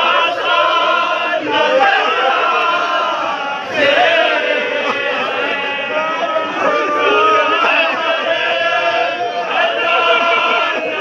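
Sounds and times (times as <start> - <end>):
lead voice singing: 0.0 - 11.0
men chanting a lament: 0.0 - 11.0.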